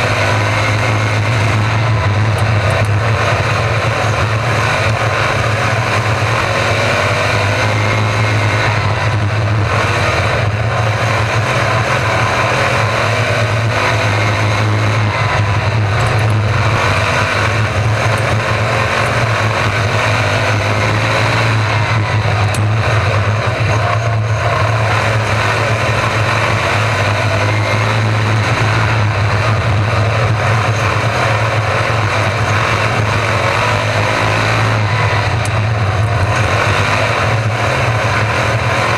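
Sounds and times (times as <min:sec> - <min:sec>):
race car engines droning: 0:00.0 - 0:38.9.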